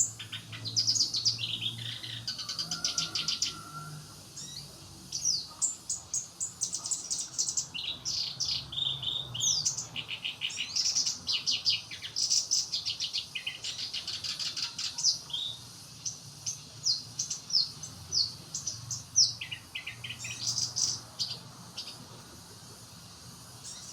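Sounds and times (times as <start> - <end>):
reed warbler singing: 0.0 - 23.9.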